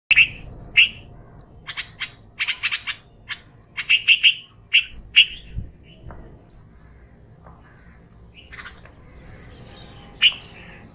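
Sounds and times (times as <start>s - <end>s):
bird chirping: 0.1s - 10.9s.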